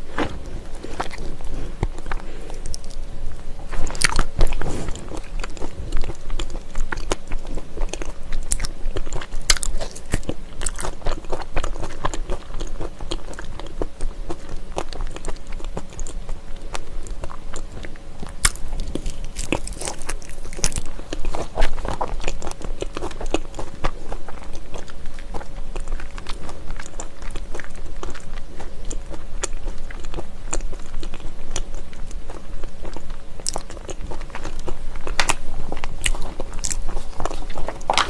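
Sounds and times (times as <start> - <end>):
person chewing: 0.0 - 38.0.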